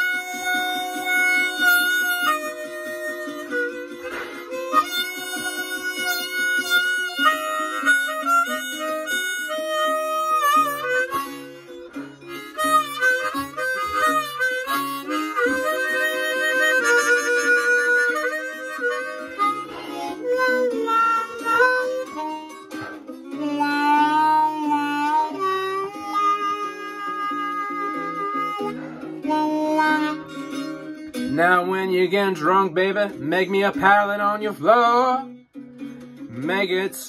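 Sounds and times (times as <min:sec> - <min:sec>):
harmonica playing blues: 0:00.0 - 0:37.0.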